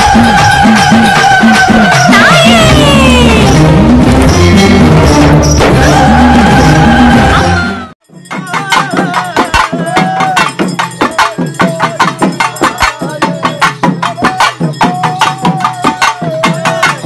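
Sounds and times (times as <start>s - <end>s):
fast loud drumming: 0.0s - 17.0s.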